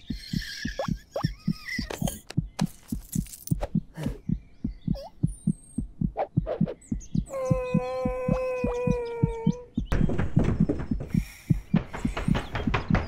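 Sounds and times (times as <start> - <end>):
heartbeat thumps: 0.0 - 13.0.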